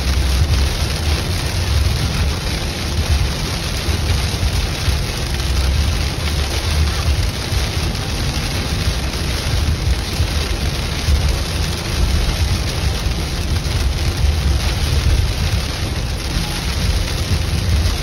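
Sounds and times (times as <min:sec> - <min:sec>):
heavy rain on car roof: 0:00.0 - 0:18.0
road and tyre rumble: 0:00.0 - 0:18.0.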